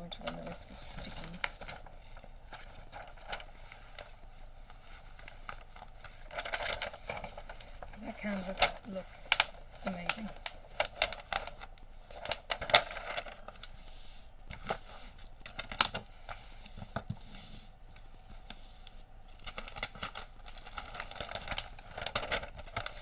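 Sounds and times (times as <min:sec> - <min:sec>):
packaging crackling and rustling: 0:00.0 - 0:23.0.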